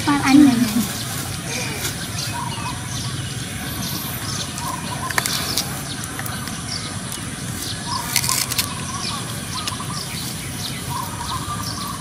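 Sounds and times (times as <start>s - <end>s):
low background noise: 0.0s - 12.0s
small birds chirping: 0.0s - 12.0s.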